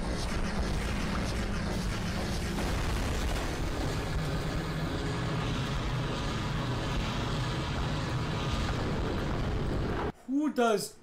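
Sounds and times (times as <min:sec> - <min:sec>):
dense battle rumble: 0:00.6 - 0:10.1.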